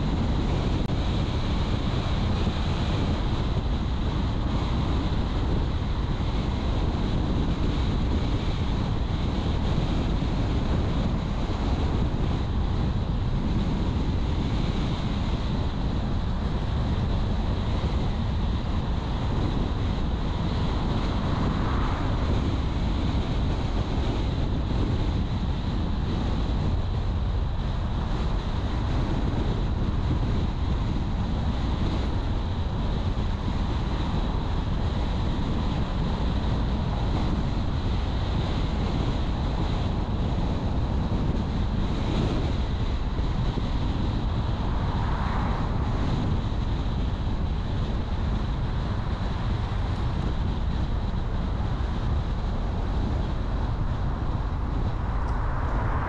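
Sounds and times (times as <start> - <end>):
tyre and wind noise: 0.0 - 56.0.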